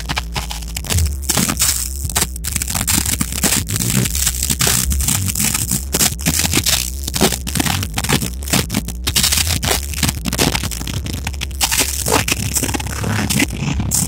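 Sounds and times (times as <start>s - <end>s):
distorted rock band playing: 0.0s - 14.0s
drum hits cracking: 0.0s - 14.0s.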